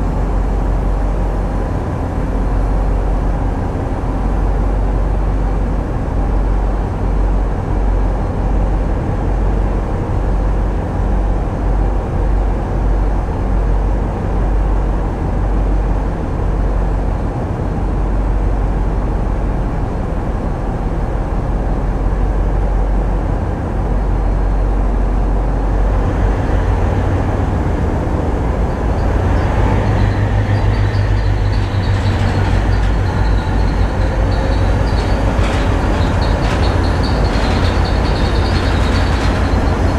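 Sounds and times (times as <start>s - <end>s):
tugboat diesel engines rumbling: 0.0s - 39.9s.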